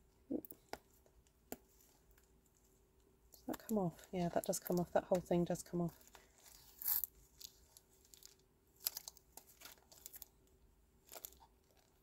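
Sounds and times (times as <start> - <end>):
label peeling and plastic rustling: 0.5 - 12.0.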